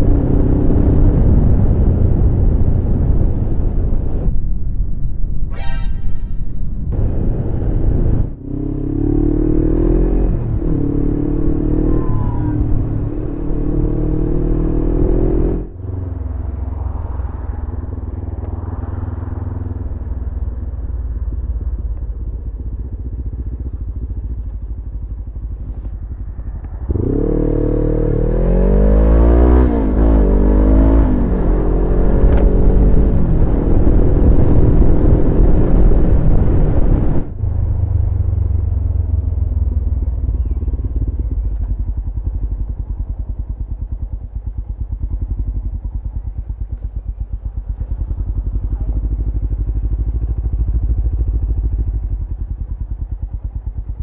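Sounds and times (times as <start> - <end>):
motorcycle engine revving: 5.6 - 54.0.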